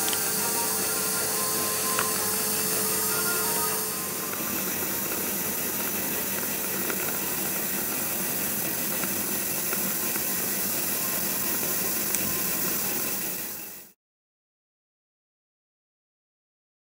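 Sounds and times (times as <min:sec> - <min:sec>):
dental equipment hissing: 0:00.0 - 0:14.0.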